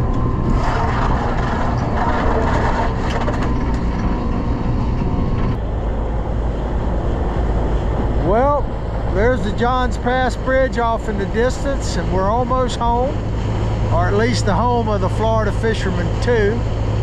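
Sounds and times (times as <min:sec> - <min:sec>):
boat engine rumble: 0:00.0 - 0:17.0
wind and water rushing: 0:00.0 - 0:17.0.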